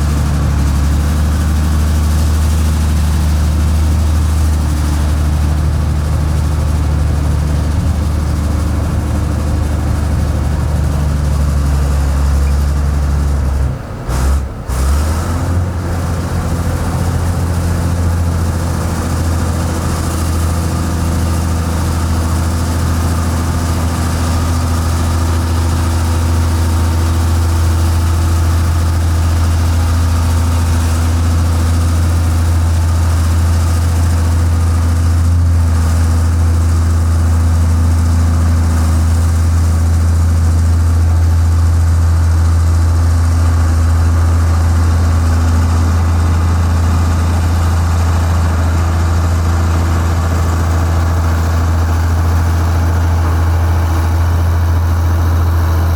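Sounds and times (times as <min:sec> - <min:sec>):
diesel engine running steadily: 0:00.0 - 0:55.9.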